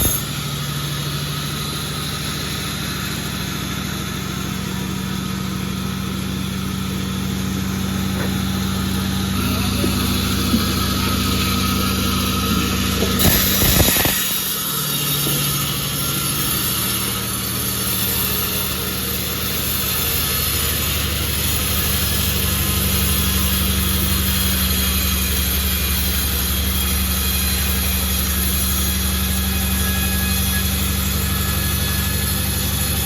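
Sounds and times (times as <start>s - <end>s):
sawmill machinery humming: 0.0s - 33.0s.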